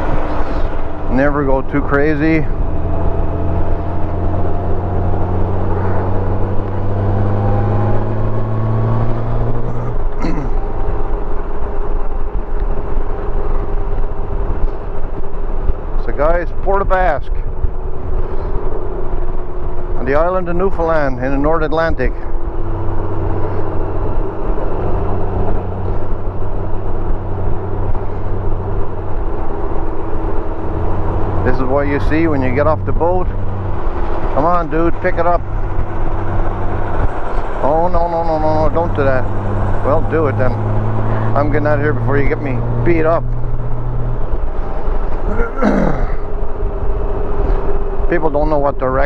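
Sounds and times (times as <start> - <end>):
motorcycle engine hum: 0.0 - 49.0
wind and road noise: 0.0 - 49.0.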